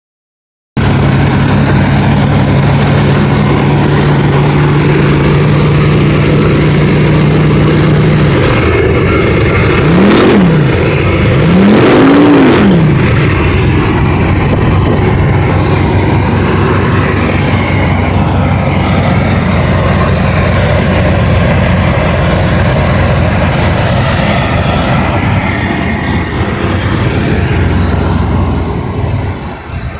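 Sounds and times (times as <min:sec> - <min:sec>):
truck engine idling and revving: 0:00.8 - 0:29.9.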